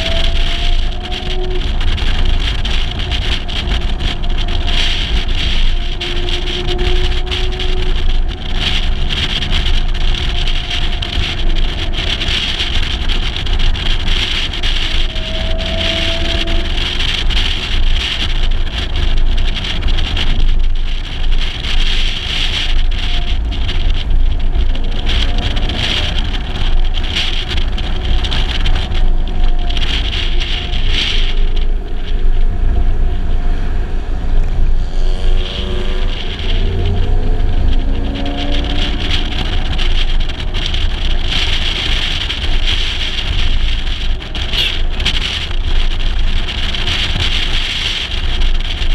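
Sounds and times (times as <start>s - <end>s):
car engine running: 0.0s - 48.9s
wind buffeting microphone: 0.0s - 48.9s.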